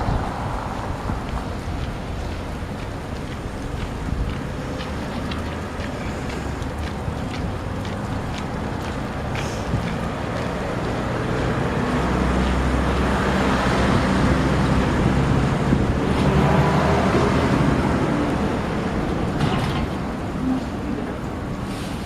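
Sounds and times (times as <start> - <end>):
motor vehicle passing: 0.0 - 20.5.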